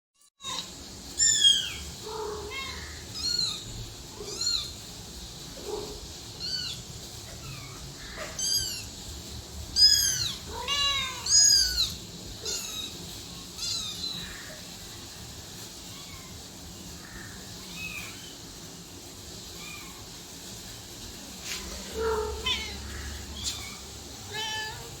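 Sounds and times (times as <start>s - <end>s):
cat and kittens meowing: 0.4s - 5.0s, 5.6s - 9.1s, 9.7s - 14.8s, 15.6s - 18.5s, 19.4s - 20.3s, 21.4s - 25.0s.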